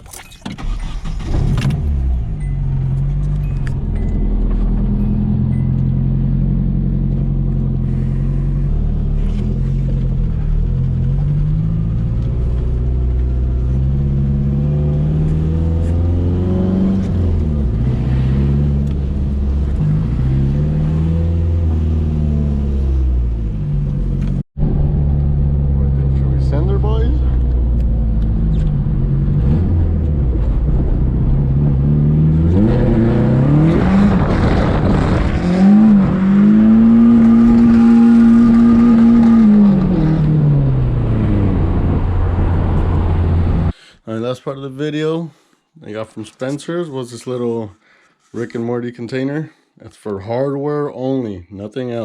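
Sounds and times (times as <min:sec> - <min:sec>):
car engine revving: 0:00.6 - 0:43.7.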